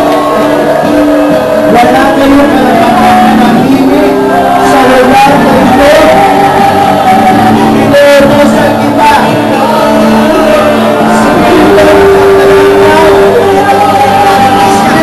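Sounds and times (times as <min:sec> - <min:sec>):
loud worship music: 0:00.0 - 0:15.0
many voices singing and calling out: 0:00.0 - 0:15.0.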